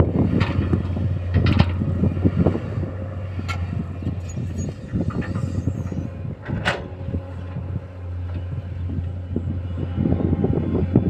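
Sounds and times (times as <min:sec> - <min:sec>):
diesel excavator engine humming: 0:00.0 - 0:11.0.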